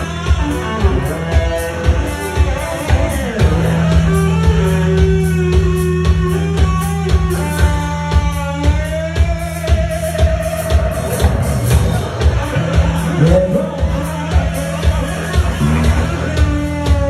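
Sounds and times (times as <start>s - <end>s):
bass: 0.0s - 17.0s
drum beat: 0.0s - 17.0s
rock guitar solo: 0.0s - 17.0s.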